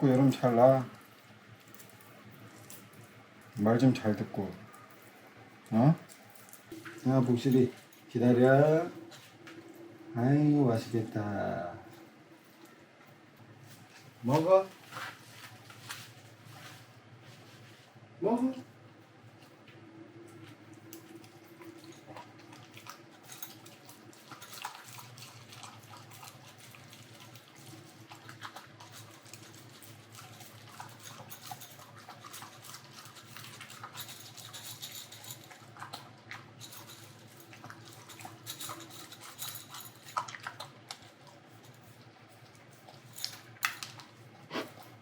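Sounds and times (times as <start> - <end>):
dog chewing and lapping: 0.0 - 16.8, 20.2 - 45.0.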